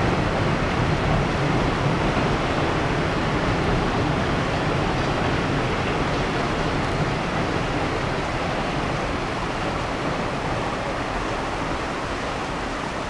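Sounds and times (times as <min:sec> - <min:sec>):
creek water rushing: 0:00.0 - 0:13.0
train rumbling past: 0:00.0 - 0:13.0.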